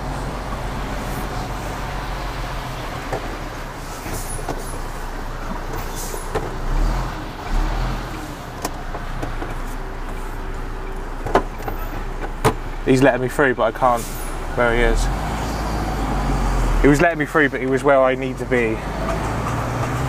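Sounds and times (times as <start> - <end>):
diesel lorry engine running: 0.0 - 20.0.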